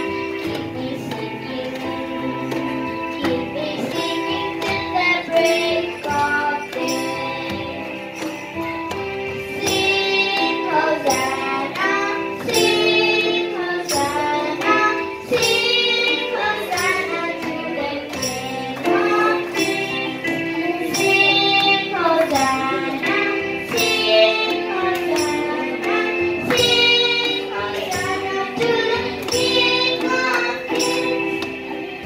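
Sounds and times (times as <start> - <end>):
girl singing into a microphone: 0.0 - 8.3, 9.4 - 31.6.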